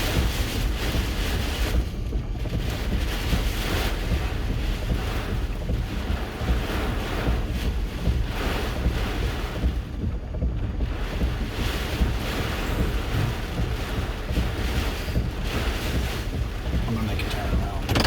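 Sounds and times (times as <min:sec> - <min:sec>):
wind gusting against a vehicle: 0:00.0 - 0:18.0.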